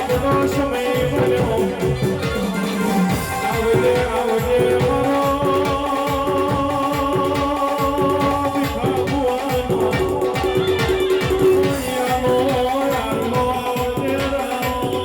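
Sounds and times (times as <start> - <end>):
fast dense drum beat: 0.0 - 15.0.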